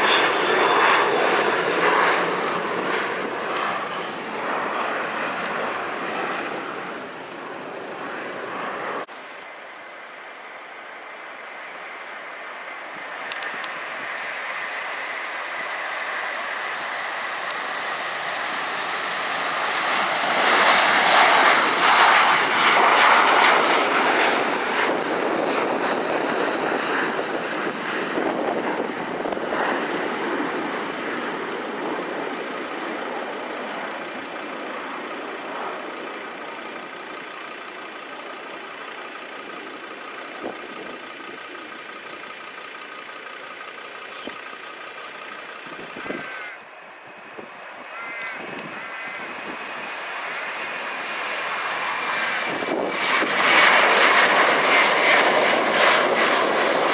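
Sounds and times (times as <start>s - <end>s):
jet engines at takeoff: 0.0s - 56.9s.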